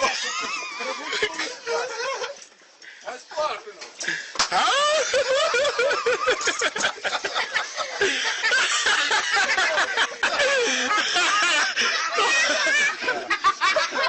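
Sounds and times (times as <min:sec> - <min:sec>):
people laughing: 0:00.0 - 0:02.5, 0:04.0 - 0:14.0.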